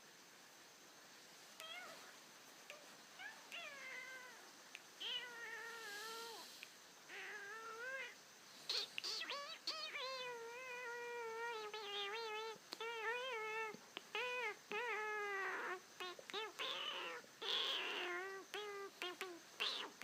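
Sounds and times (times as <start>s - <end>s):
cat meowing: 1.6s - 2.1s, 2.7s - 6.5s, 7.1s - 20.0s.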